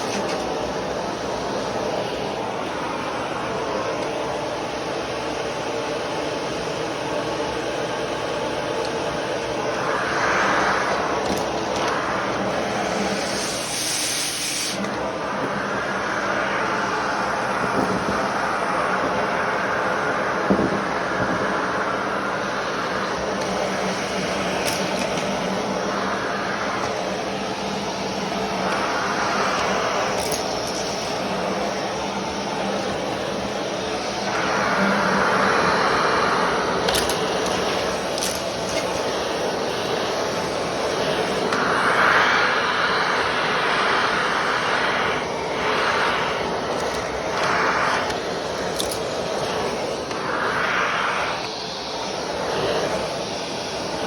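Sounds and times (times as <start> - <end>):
vacuum cleaner running: 0.0 - 54.0
sharp hiss of air: 7.2 - 54.0.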